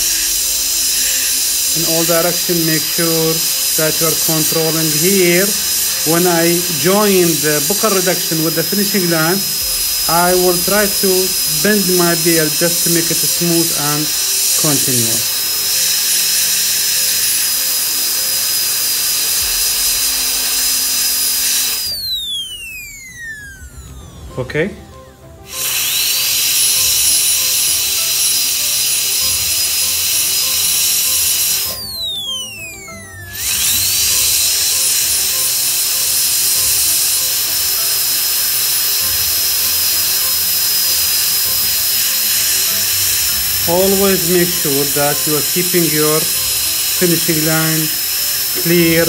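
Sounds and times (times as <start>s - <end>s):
water spray hissing: 0.0s - 22.0s, 25.5s - 32.1s, 33.2s - 49.0s
dental drill whining: 0.0s - 49.0s.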